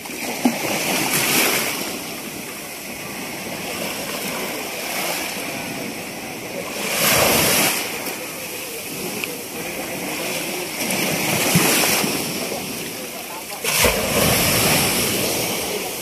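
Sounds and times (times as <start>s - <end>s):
sea water sloshing and splashing: 0.0s - 16.0s.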